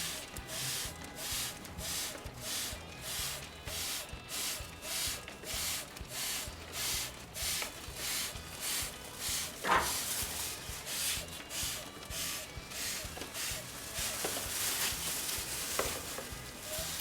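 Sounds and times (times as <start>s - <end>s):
pressure washer water jet hissing: 0.0s - 17.0s.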